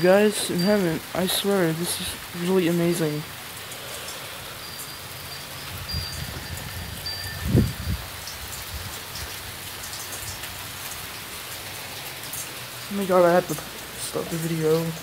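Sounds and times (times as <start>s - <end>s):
hailstones ticking: 0.0s - 15.0s
rain patter: 0.0s - 15.0s.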